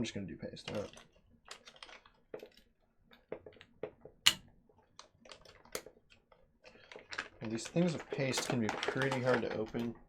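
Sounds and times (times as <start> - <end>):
plastic items clicking and tapping: 0.4 - 10.0.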